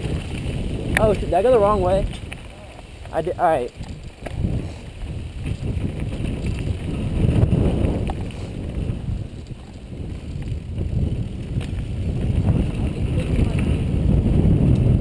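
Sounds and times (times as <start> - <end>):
tyre rumble on dirt: 0.0 - 15.0
wind buffeting microphone: 0.0 - 15.0.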